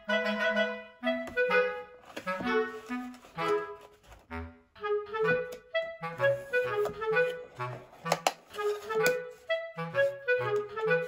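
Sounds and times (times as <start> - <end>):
woodwind melody: 0.0 - 11.0.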